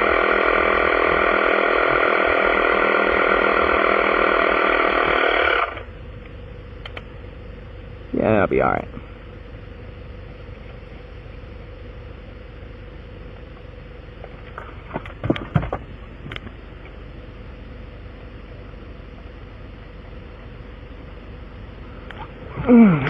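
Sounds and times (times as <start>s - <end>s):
steady motor hum: 0.0s - 23.0s.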